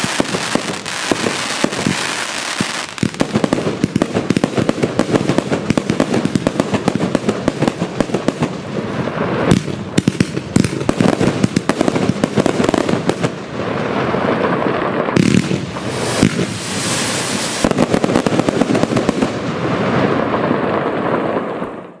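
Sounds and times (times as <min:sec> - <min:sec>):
firework crackle with hiss: 0:00.0 - 0:22.0
fireworks cracking: 0:00.0 - 0:22.0.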